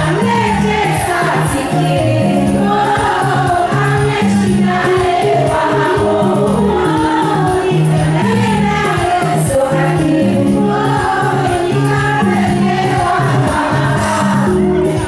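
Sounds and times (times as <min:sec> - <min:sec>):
bass line: 0:00.0 - 0:15.0
steady percussion beat: 0:00.0 - 0:15.0
women singing together: 0:00.0 - 0:15.0.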